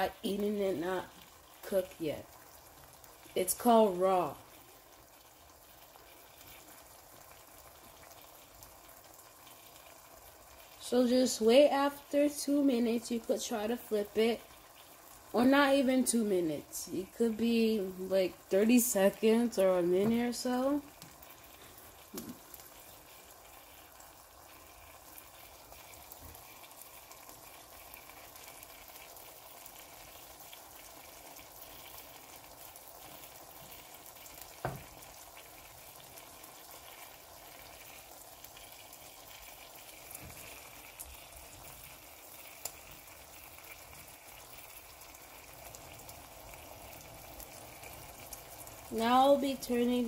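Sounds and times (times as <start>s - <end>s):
small crackles: 0.0s - 15.5s, 18.0s - 50.0s
eggs sizzling in a skillet: 0.0s - 50.0s.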